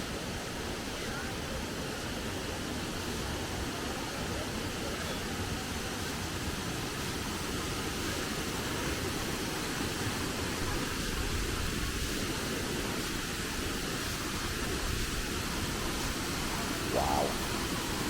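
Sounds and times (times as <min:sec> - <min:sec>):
waterfall roaring: 0:00.1 - 0:18.0.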